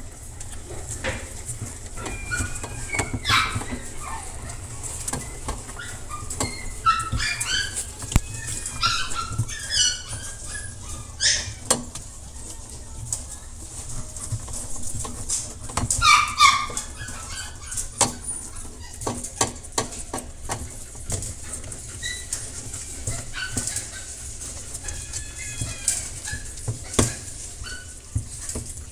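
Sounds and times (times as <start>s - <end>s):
soft clicks and shuffling: 0.0s - 28.9s
puppies squeaking and whimpering: 0.6s - 28.9s
puppies squealing: 0.9s - 12.8s, 13.4s - 20.0s, 20.6s - 28.8s.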